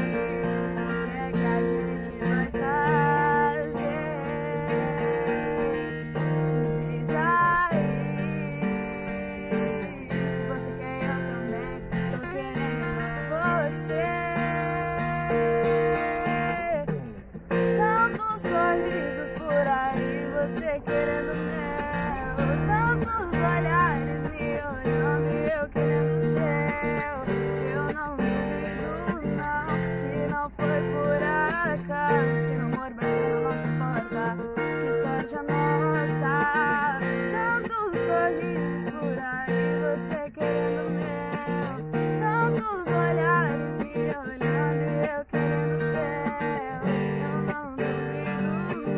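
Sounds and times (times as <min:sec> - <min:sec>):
acoustic guitar chords: 0:00.0 - 0:48.9
girl singing: 0:00.0 - 0:48.9.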